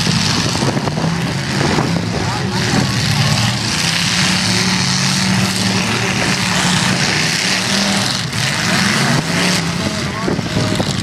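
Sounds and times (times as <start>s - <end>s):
car engines droning: 0.0s - 11.0s.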